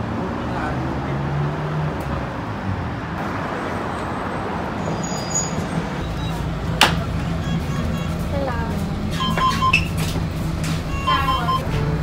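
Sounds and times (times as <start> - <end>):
street traffic: 0.0 - 12.0
bus engine humming: 1.8 - 12.0.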